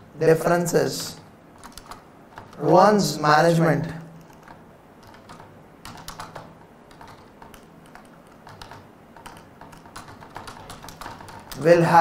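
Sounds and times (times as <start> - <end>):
laptop keyboard typing: 1.0 - 3.0, 4.1 - 12.0.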